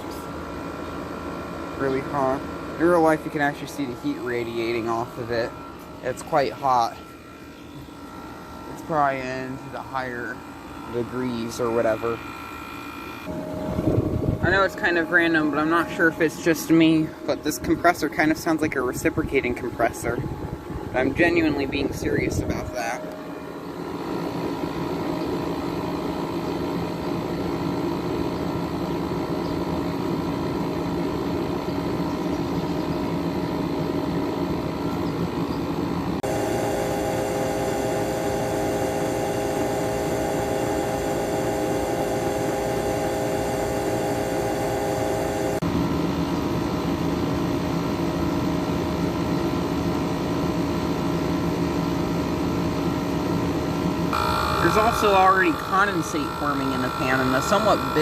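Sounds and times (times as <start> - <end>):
window air conditioner humming: 0.0 - 58.0.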